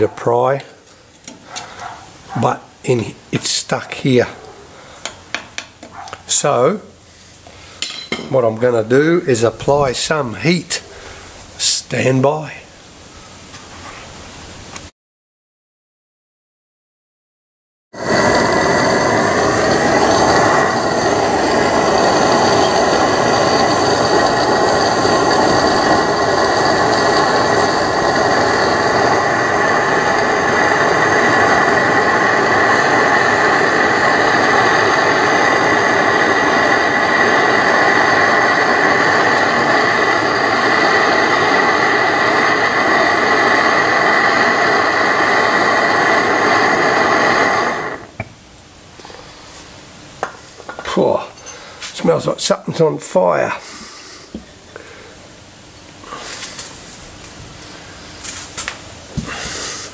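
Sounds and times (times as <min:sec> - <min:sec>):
gas blowtorch hissing: 0:00.0 - 0:06.5, 0:07.1 - 0:11.8, 0:18.0 - 0:48.3, 0:49.0 - 0:59.9.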